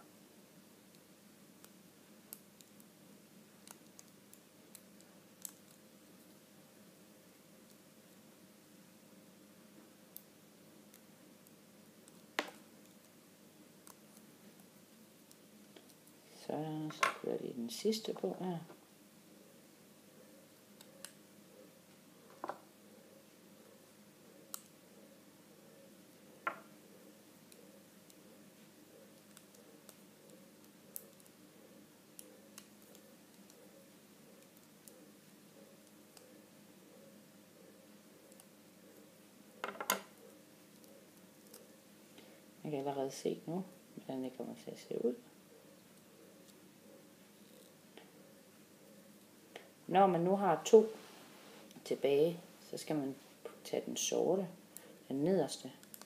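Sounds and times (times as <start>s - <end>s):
faint steady hum: 0.0s - 56.0s
low room hiss: 0.0s - 56.0s.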